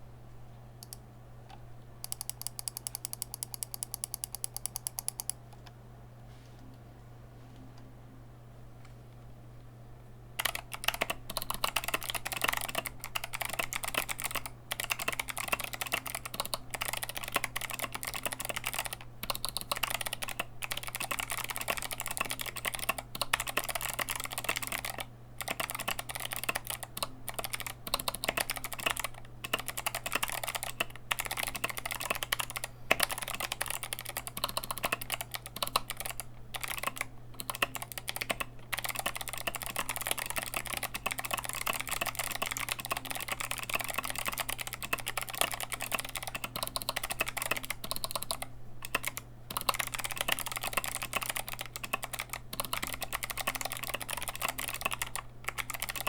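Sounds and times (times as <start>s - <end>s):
mechanical keyboard typing: 2.0s - 5.4s, 10.4s - 56.0s.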